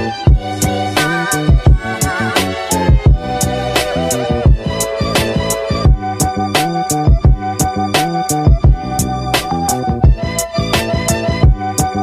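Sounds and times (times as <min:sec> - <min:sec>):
held melody: 0:00.0 - 0:12.0
steady drum beat: 0:00.2 - 0:12.0.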